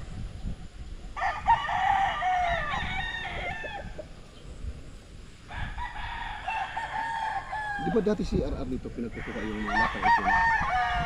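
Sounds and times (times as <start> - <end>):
roosters crowing: 1.0 - 4.4, 5.4 - 11.0.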